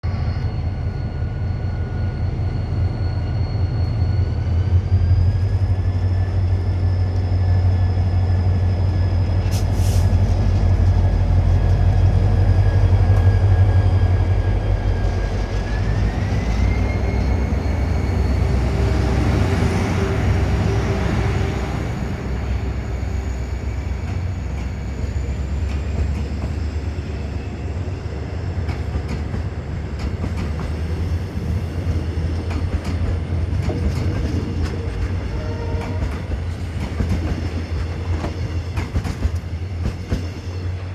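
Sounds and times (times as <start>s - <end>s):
train pulling away: 0.1s - 40.9s.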